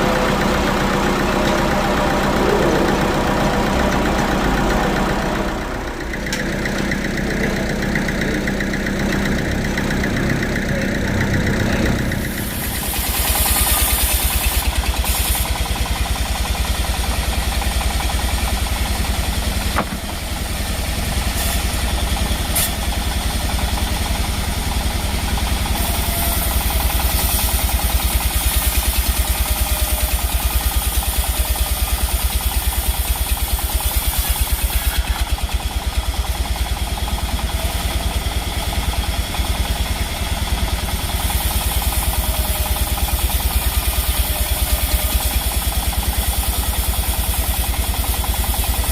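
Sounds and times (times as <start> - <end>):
sawmill engine thudding: 0.0 - 48.9.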